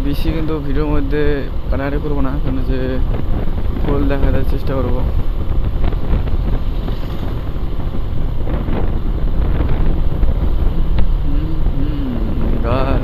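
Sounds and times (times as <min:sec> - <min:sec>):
motorcycle engine and road noise: 0:00.0 - 0:13.0
wind buffeting microphone: 0:00.0 - 0:13.0.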